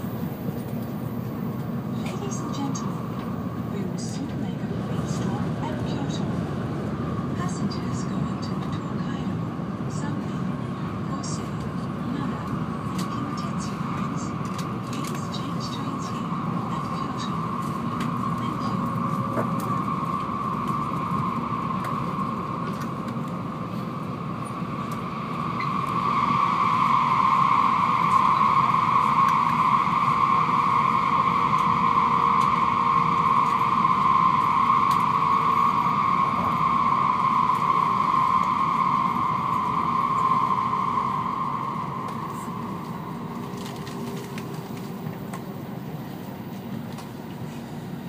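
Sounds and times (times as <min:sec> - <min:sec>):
high hum: 0:00.0 - 0:08.6, 0:10.7 - 0:47.6
train rushing rumble: 0:00.0 - 0:48.0.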